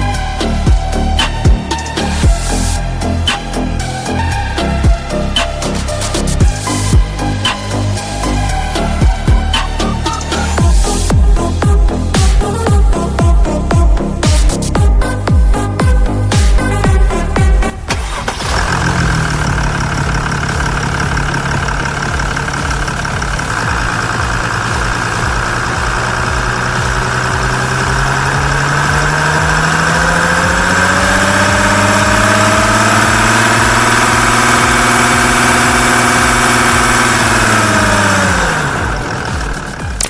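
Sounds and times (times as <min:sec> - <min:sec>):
diesel engine idling: 0:00.0 - 0:40.0
engine shutting off and winding down: 0:00.0 - 0:40.0.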